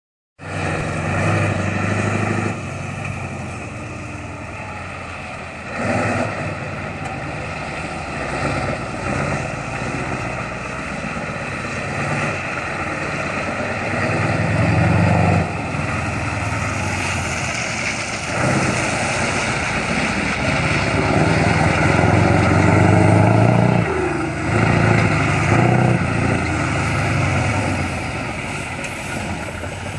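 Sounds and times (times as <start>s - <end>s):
truck diesel engine revving: 0.4s - 29.9s.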